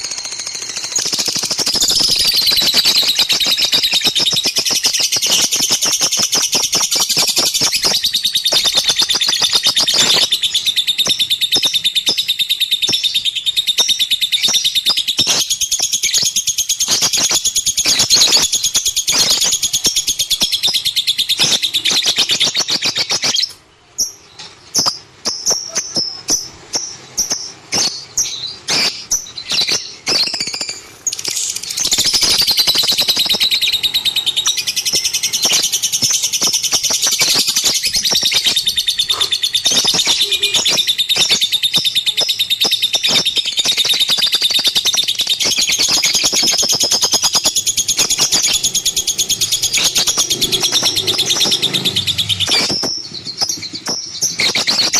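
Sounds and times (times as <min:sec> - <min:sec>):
lovebird chirping: 0:00.0 - 0:54.9.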